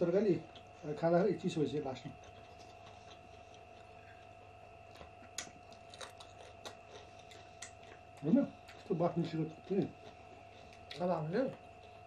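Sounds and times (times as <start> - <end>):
low steady hum: 0.0 - 12.0
person chewing: 2.1 - 12.0.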